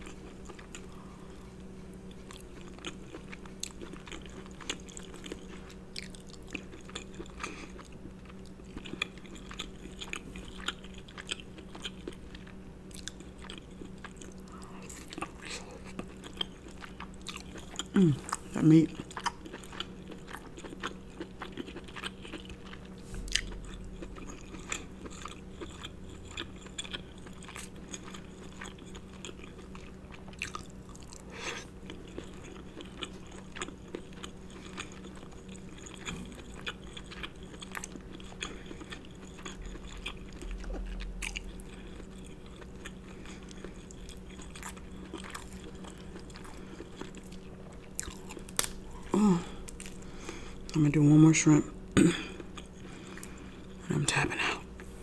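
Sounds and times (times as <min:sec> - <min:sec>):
chewing and wet mouth sounds: 0:00.0 - 0:55.0
steady low hum: 0:00.0 - 0:55.0.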